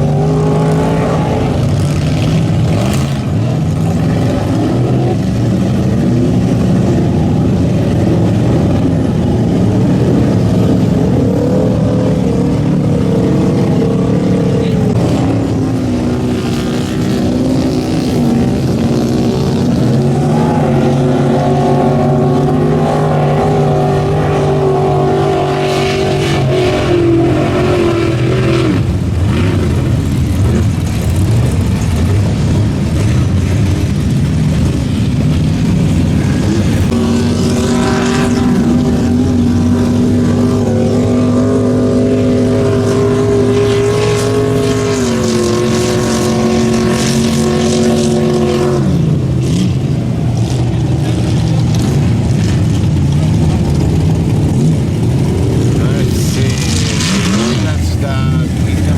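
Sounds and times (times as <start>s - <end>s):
truck engine at high revs: 0.0s - 58.9s.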